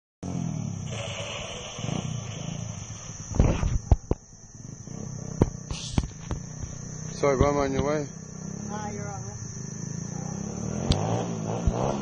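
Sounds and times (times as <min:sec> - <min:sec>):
small motorbike engine running: 0:00.2 - 0:04.0, 0:04.6 - 0:12.0.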